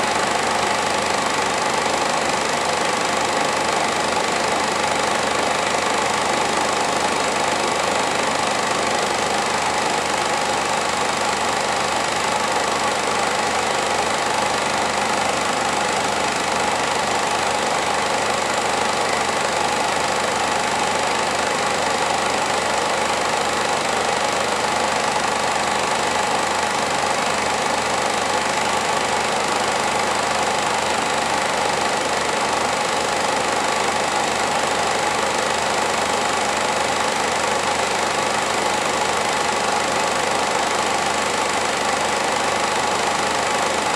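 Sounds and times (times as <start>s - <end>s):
film projector whirring and clattering: 0.0s - 43.9s.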